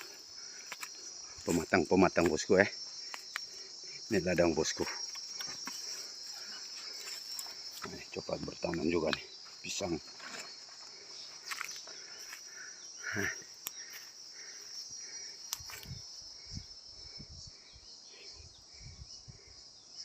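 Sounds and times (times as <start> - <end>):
shrill insect chorus: 0.0 - 20.0.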